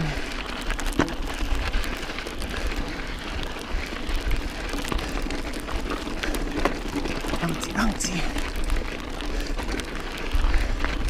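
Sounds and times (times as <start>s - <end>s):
bike tyres crunching on gravel: 0.0s - 11.0s
clicks and knocks of stones: 0.0s - 11.0s
wind rumble on microphone: 0.0s - 11.0s.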